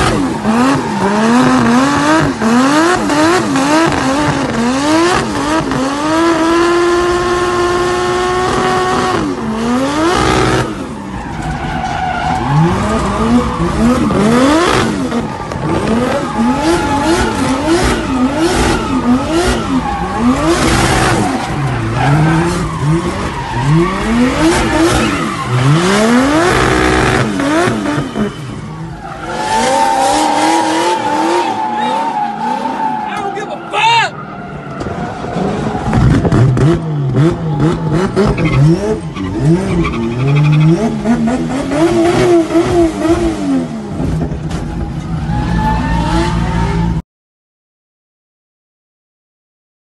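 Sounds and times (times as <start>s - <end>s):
car engine revving: 0.0s - 33.7s, 34.6s - 47.0s.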